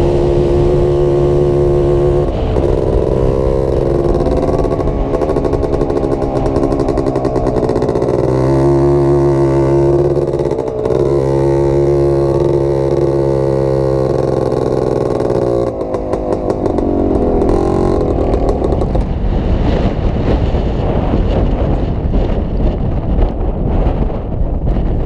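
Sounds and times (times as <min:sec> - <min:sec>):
atv engine running: 0:00.0 - 0:25.0
wind rushing over microphone: 0:00.0 - 0:25.0.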